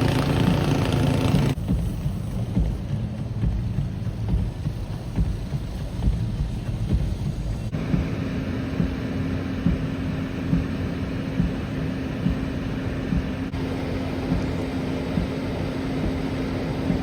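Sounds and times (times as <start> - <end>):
low background roar: 0.0 - 17.0
steady low hum: 0.0 - 17.0.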